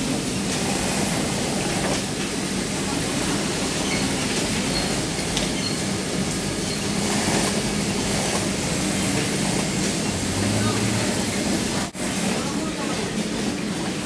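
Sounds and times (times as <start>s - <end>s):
sewing machines whirring: 0.0s - 14.0s.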